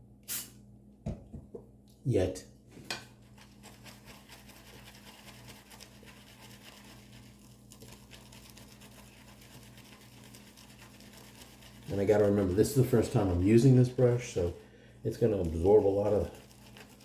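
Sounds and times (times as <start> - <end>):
shaving brush swishing lather: 3.2 - 17.0.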